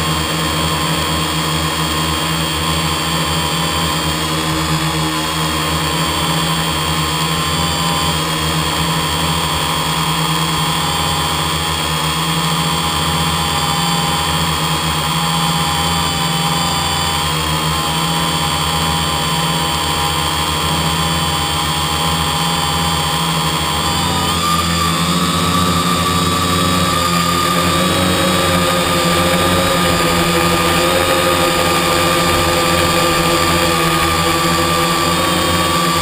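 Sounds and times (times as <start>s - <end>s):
drone propellers whining: 0.0s - 36.0s.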